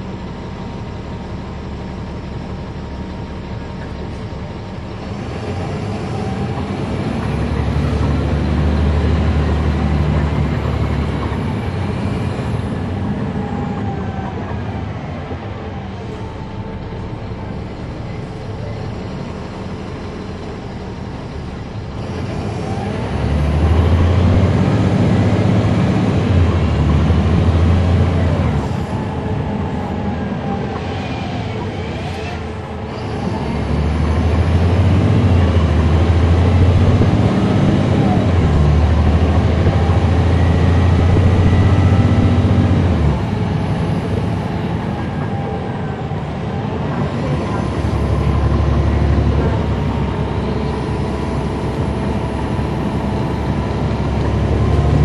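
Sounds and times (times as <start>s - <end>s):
bus diesel engine: 0.0s - 55.0s.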